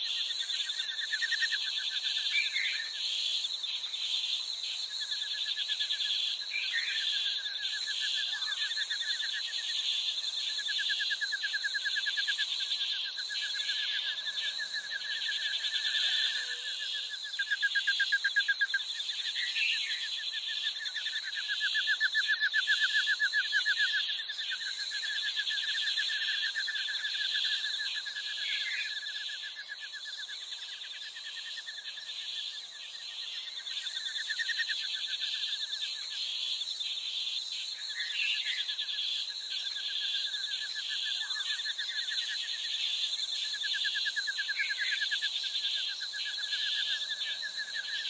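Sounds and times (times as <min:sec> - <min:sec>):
insects pulsing trill: 0:00.0 - 0:48.0
short insect chirp: 0:00.0 - 0:48.0.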